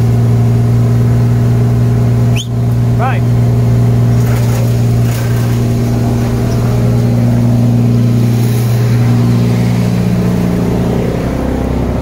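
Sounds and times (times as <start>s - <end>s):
tractor engine hum: 0.0s - 12.0s.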